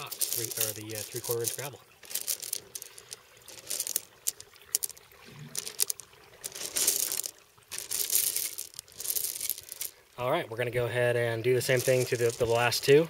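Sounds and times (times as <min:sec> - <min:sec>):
gravel stones clicking and crunching: 0:00.0 - 0:10.0, 0:11.6 - 0:12.9.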